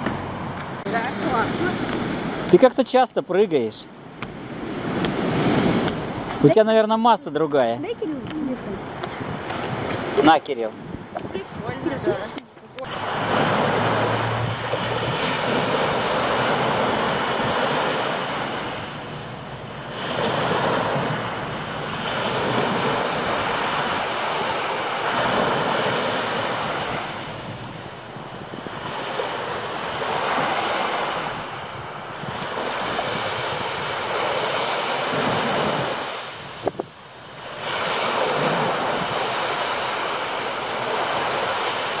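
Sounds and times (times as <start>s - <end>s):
waves breaking on sandy beach: 0.0s - 42.0s.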